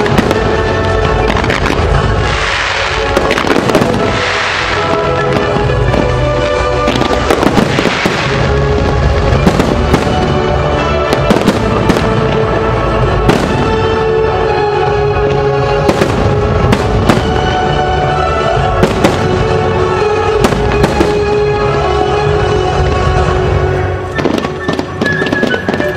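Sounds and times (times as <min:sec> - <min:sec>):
fireworks bangs: 0:00.0 - 0:25.9
loud music: 0:00.0 - 0:25.9.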